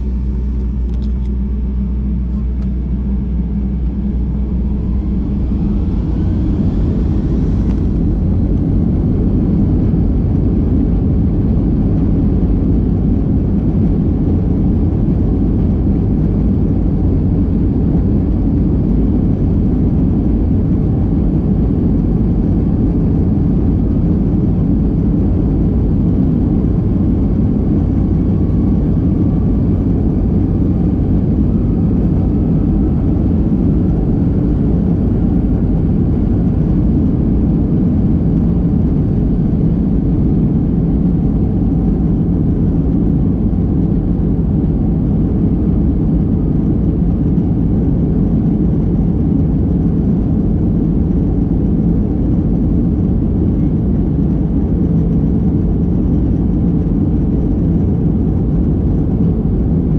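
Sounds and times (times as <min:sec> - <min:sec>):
airliner engine drone in cabin: 0:00.0 - 0:59.9.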